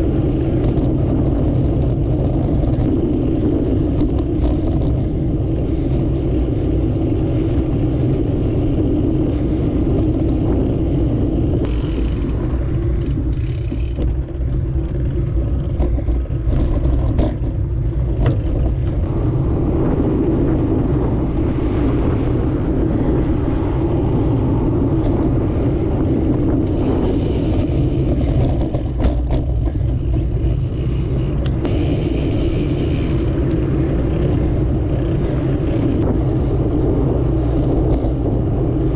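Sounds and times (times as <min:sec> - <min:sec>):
bicycle road rumble: 0:00.0 - 0:38.9
wind: 0:00.0 - 0:38.9.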